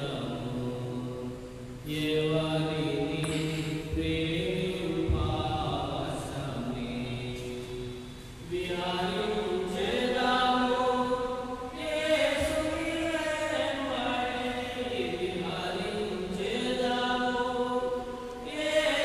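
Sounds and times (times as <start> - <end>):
voices singing a slow chant: 0.0 - 19.0.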